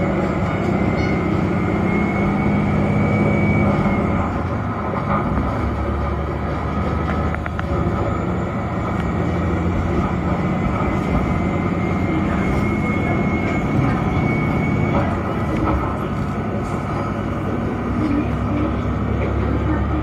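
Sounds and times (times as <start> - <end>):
diesel railcar engine running: 0.0 - 20.0.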